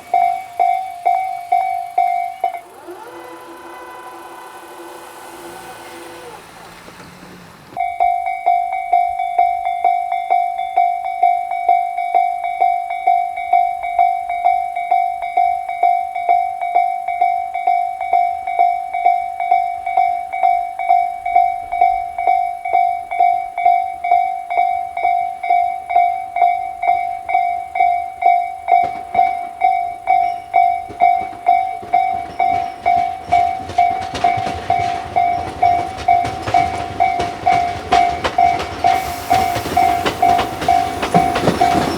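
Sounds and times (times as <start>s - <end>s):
approaching train rumble: 0.0s - 22.7s, 24.8s - 41.9s
level crossing bell ringing: 0.0s - 41.9s.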